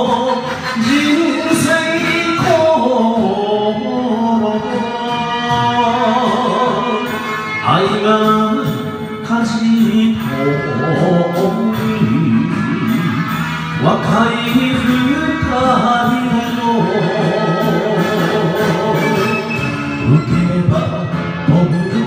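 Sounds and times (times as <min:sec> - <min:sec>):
karaoke backing track: 0:00.0 - 0:22.0
man singing into microphone: 0:00.0 - 0:22.0.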